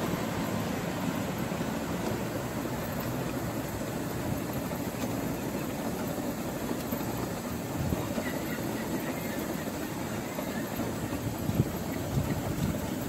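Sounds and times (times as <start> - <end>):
wheels rumbling on paving stones: 0.0 - 13.0.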